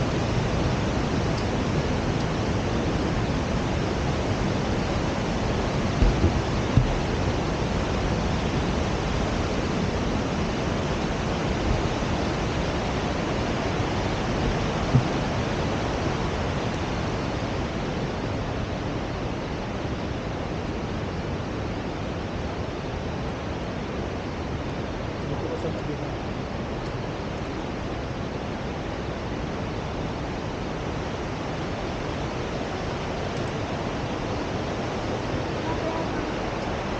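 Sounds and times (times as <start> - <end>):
white water rushing: 0.0 - 36.9.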